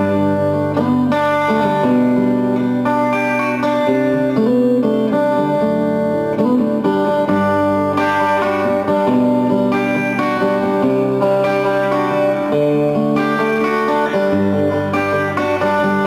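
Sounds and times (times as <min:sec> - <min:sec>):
instrumental guitar music: 0:00.0 - 0:16.0.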